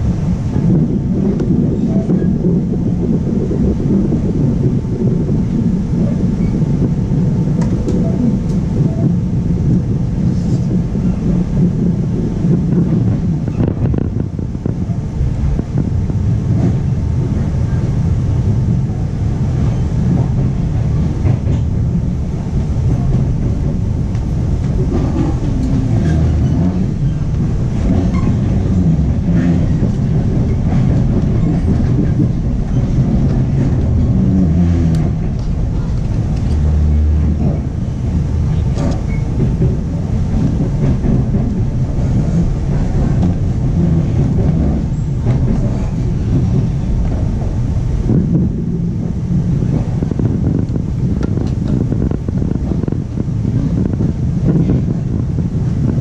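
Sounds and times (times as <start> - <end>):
train wheels rumbling on rails: 0.0 - 56.0
track clicks and knocks: 5.4 - 55.2.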